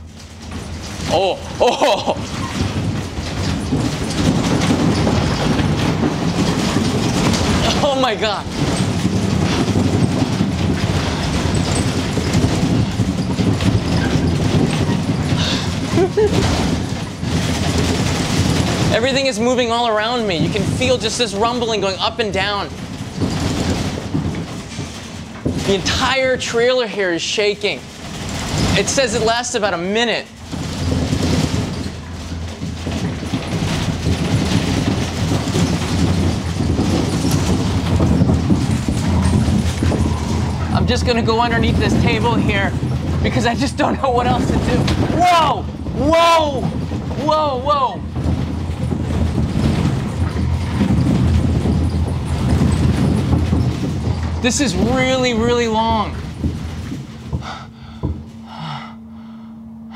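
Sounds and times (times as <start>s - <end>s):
deep rumble: 0.0s - 59.9s
room rattling: 0.0s - 59.9s.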